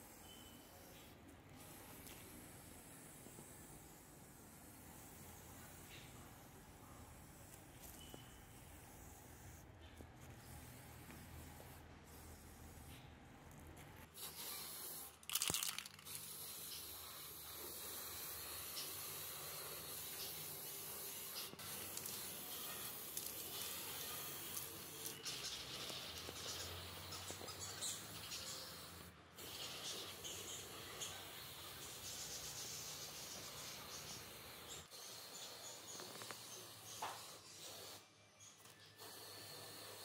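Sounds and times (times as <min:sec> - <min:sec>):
spray-paint can hissing: 0:00.0 - 0:06.1, 0:10.3 - 0:12.9, 0:14.1 - 0:40.0.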